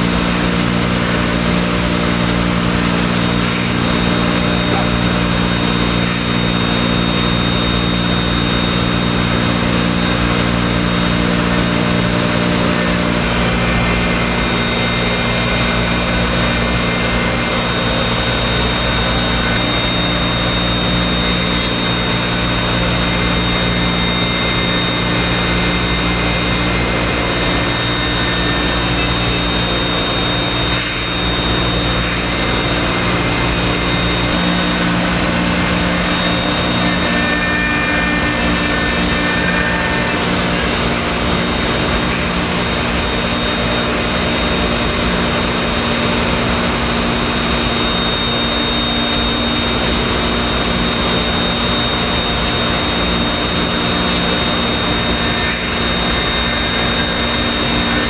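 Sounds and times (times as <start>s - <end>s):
cnc router whine: 0.0s - 58.0s.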